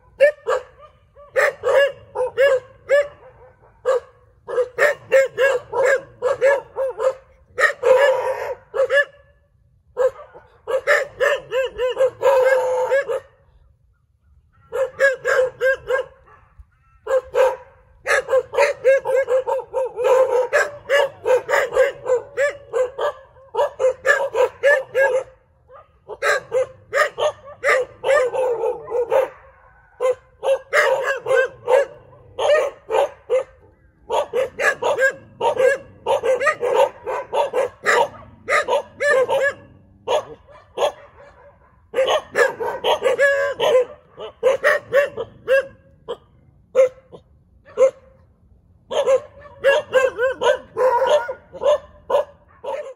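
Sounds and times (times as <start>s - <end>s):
dogs barking: 0.0s - 13.6s, 14.4s - 48.2s, 48.9s - 52.9s.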